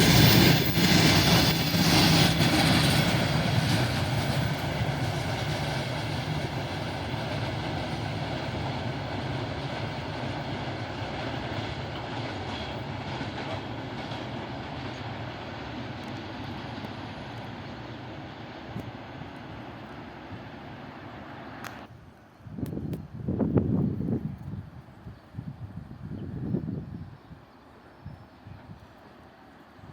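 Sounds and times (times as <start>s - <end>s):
freight train rumbling on rails: 0.0s - 29.9s.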